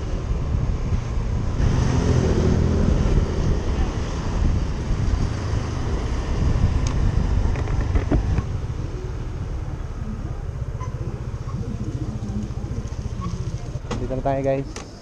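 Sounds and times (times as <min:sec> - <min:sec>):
road and wind noise: 0:00.0 - 0:15.0
vehicle engine running: 0:01.2 - 0:15.0.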